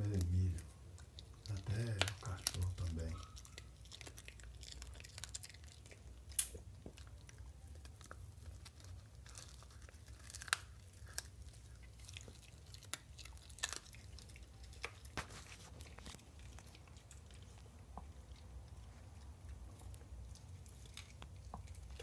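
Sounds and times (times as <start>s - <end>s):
dog crunching corn cob: 0.0s - 22.0s.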